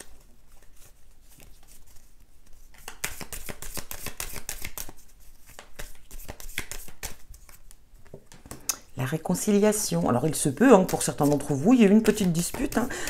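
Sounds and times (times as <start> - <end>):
cards being shuffled: 0.0 - 8.7, 10.2 - 12.9.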